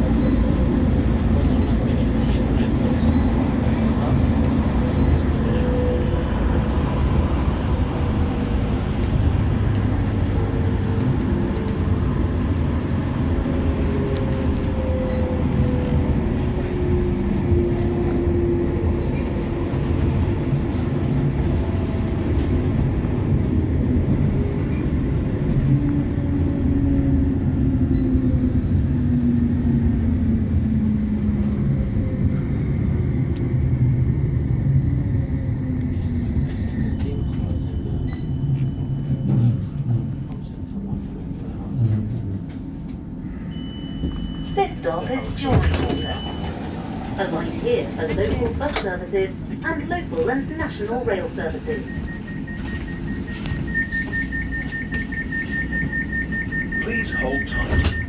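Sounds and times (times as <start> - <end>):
tram wheels rumbling: 0.0 - 58.0.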